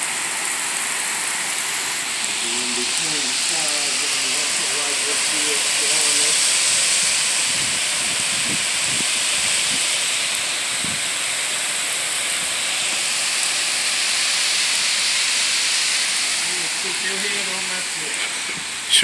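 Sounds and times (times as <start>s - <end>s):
heavy rain on cars: 0.0s - 19.0s.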